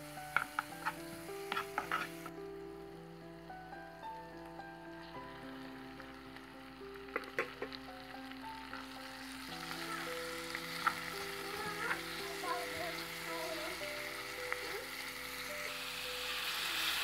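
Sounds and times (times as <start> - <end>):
background music with held notes: 0.0 - 17.0
chicken sizzling in hot oil: 0.0 - 17.0.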